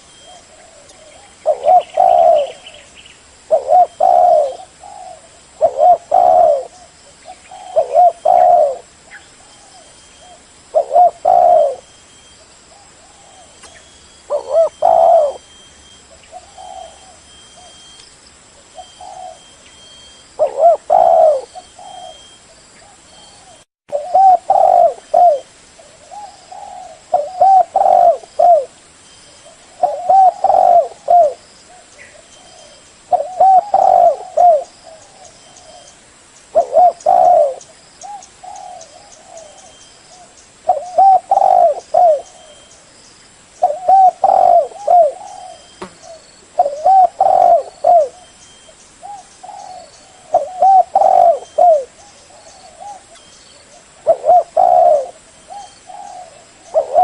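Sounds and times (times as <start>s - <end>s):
dove cooing: 0.0s - 18.0s, 18.6s - 28.8s, 29.4s - 35.9s, 36.5s - 42.9s, 43.6s - 48.4s, 49.0s - 57.0s.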